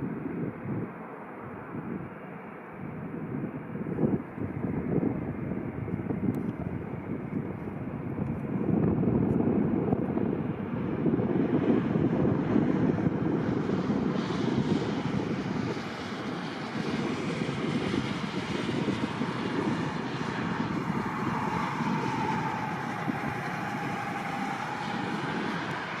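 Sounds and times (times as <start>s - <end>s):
jet engines rumbling: 2.6s - 26.0s.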